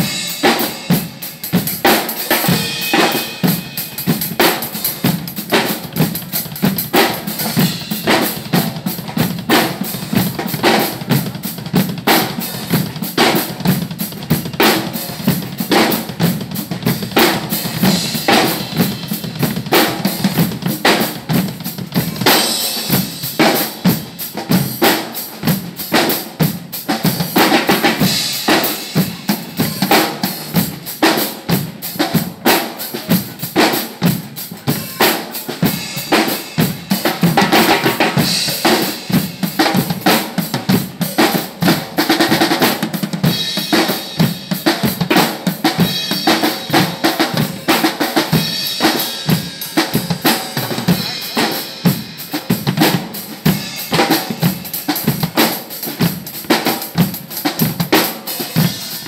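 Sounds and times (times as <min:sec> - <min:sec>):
drum kits playing funk-rock groove: 0:00.0 - 0:59.0.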